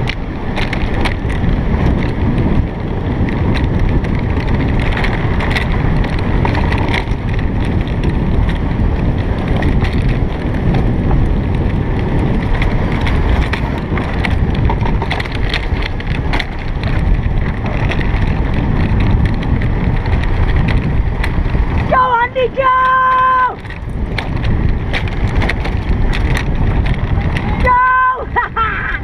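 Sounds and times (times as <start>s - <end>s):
sharp clicks and rattles: 0.0s - 29.0s
sled wheels rumbling on rails: 0.0s - 29.0s
wind buffeting microphone: 0.0s - 29.0s.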